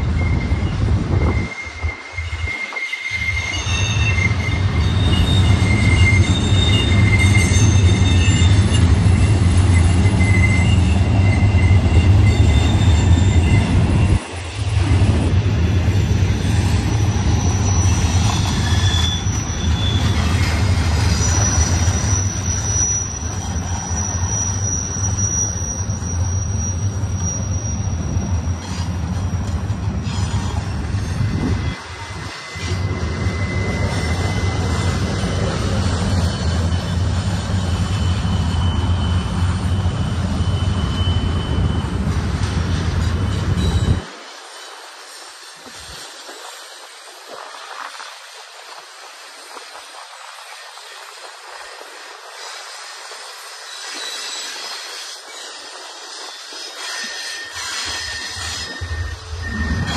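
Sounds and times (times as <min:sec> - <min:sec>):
wheel flange squealing: 0:00.0 - 0:14.7, 0:16.0 - 0:46.7, 0:51.7 - 0:59.9
train wheels rumbling on rail: 0:00.0 - 0:59.9.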